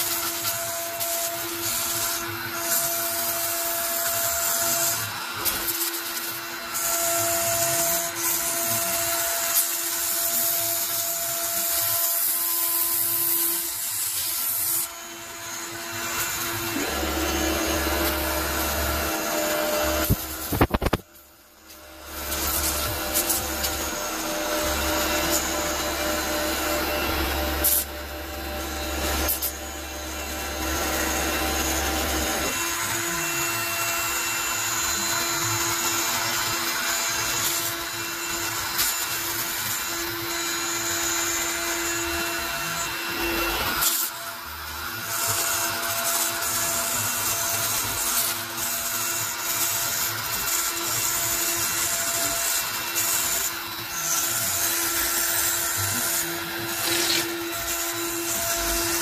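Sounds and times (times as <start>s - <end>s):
hiss of cutting acrylic: 0.0s - 59.0s
router spindle whine: 0.0s - 59.0s.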